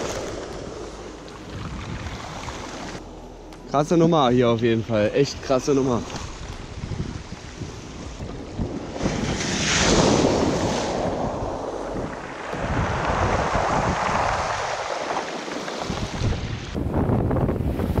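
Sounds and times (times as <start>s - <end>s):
storm surf washing around legs: 0.0s - 3.0s, 5.9s - 18.0s
wind buffeting microphone: 0.0s - 3.0s, 5.3s - 18.0s.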